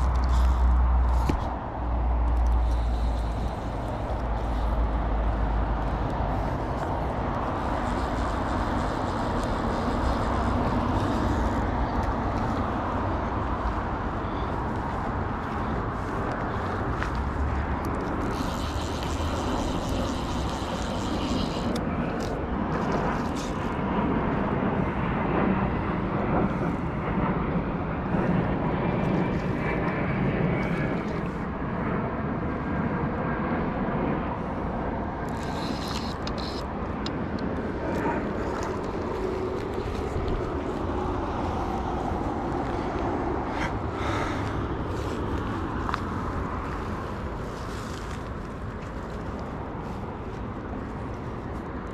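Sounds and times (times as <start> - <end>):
outdoor rumble and hiss: 0.0 - 51.9
road traffic: 0.0 - 51.9.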